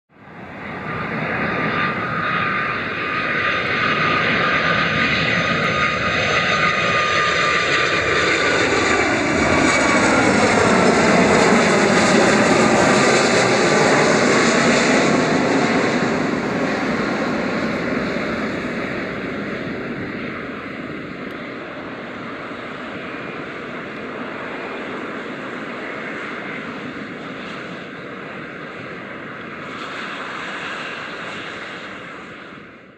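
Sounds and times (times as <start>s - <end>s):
jet engine whine: 0.1s - 32.9s
jet engines roaring: 0.2s - 32.9s.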